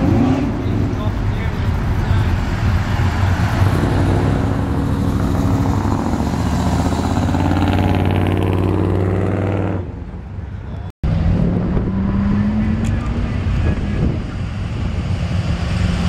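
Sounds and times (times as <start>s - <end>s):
cars passing with loud exhaust: 0.0s - 16.0s.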